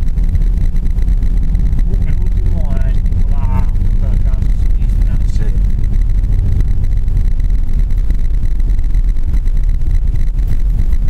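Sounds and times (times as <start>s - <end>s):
low rumble of engine and tyres: 0.0s - 11.0s.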